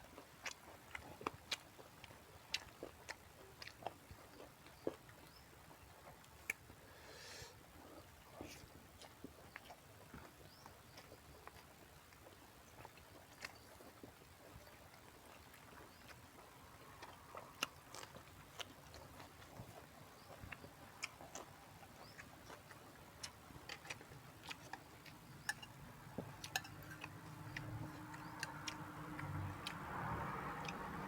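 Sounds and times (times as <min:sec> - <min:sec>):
chewing crunchy vegetables: 0:00.0 - 0:31.0.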